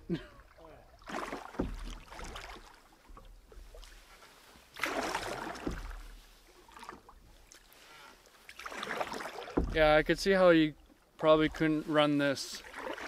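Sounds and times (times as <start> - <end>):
water splashing around a canoe: 0.0 - 13.0.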